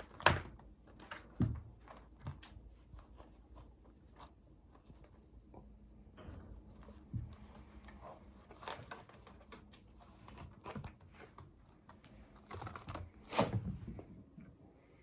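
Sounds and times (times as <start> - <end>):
kitten scratching and rustling: 0.0 - 14.1.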